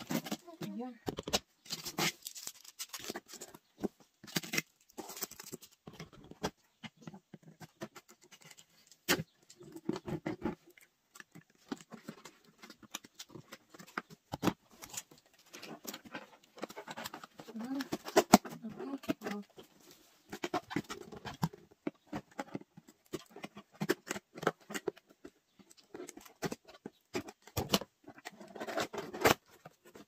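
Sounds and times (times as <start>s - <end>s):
cardboard rustling: 0.0s - 30.0s.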